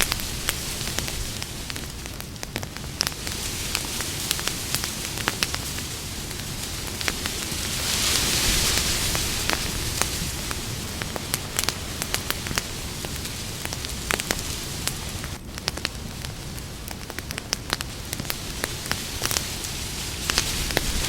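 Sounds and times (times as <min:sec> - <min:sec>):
low rush of flames: 0:00.0 - 0:21.0
wood crackling and popping: 0:00.0 - 0:21.0.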